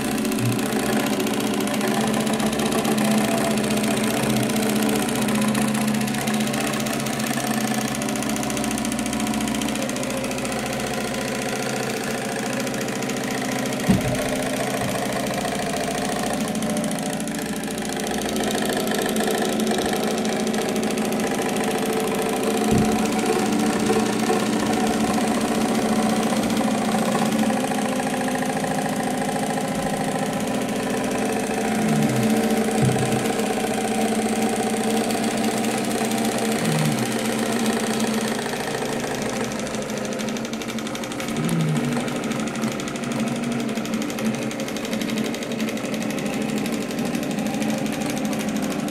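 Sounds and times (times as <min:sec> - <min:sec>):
machine hum: 0:00.0 - 0:48.4.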